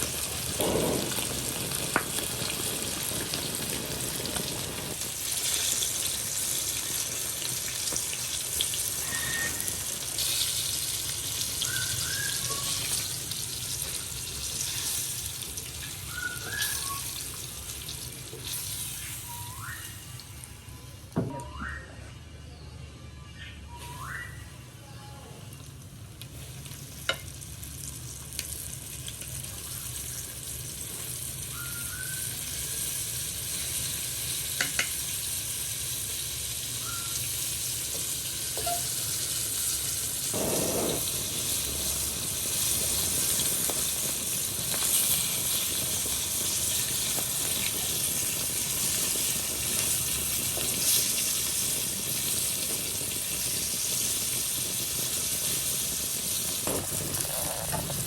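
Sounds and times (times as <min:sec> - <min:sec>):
food sizzling in hot oil: 0:00.0 - 0:21.2, 0:25.5 - 0:58.0.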